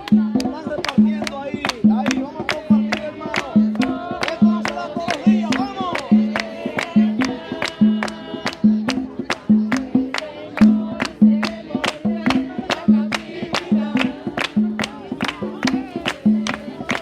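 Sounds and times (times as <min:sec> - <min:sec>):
lively music with driving beat: 0:00.0 - 0:17.0.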